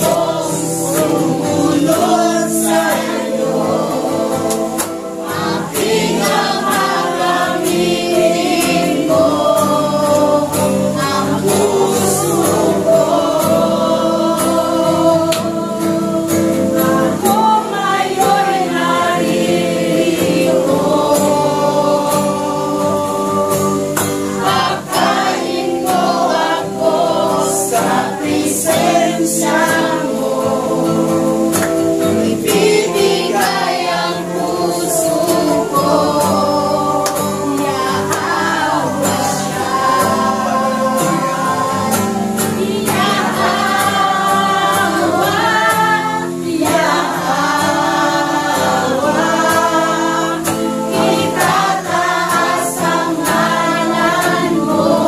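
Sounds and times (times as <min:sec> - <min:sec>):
congregation singing: 0:00.0 - 0:55.0
instrumental accompaniment: 0:00.0 - 0:55.0.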